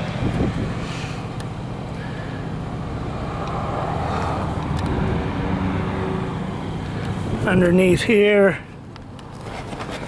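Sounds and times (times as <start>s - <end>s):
vehicle engine low rumble: 0.0s - 10.0s.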